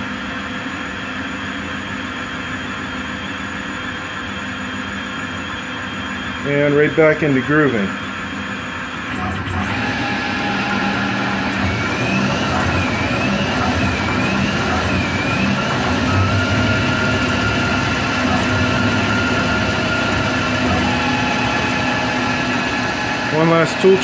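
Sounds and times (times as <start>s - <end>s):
lathe running with whine: 0.0s - 24.0s.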